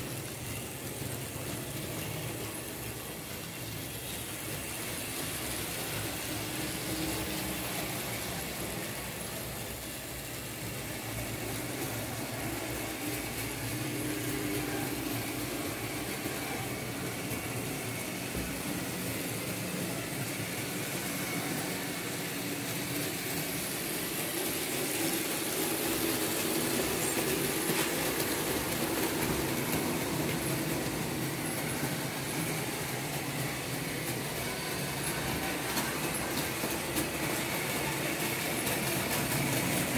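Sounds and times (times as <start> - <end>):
model train motor running: 0.0 - 39.9
wheels rattling over rails: 0.0 - 39.9.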